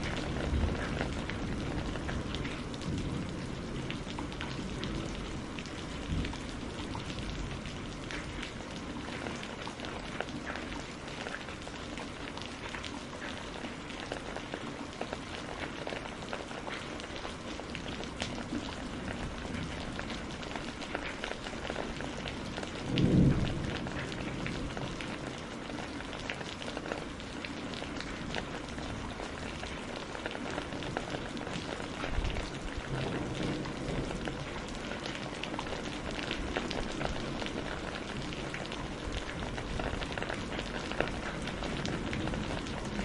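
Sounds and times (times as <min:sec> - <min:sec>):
rain on greenhouse: 0:00.0 - 0:43.0.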